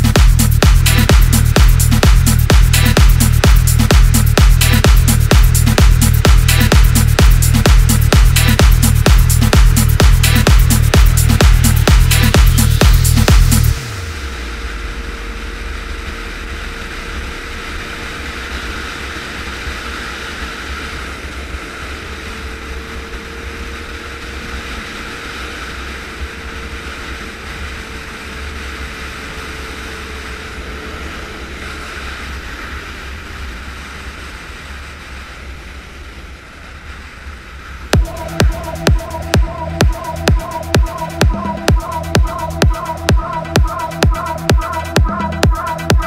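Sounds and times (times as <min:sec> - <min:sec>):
motorcycle engine rumble: 0:00.0 - 0:46.0.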